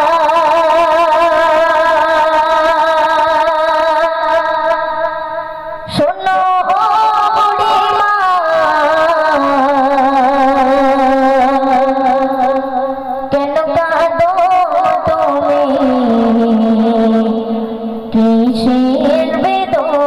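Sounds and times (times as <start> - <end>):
girl singing into a microphone: 0.0 - 20.0.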